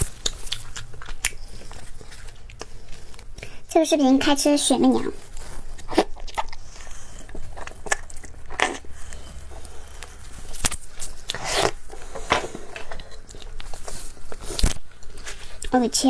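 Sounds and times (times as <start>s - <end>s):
wet chewing mouth sounds: 0.0s - 3.6s, 5.2s - 15.7s.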